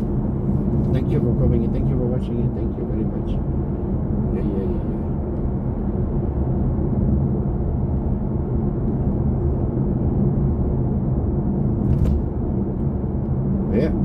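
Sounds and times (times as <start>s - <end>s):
road and tyre rumble in car: 0.0s - 14.0s.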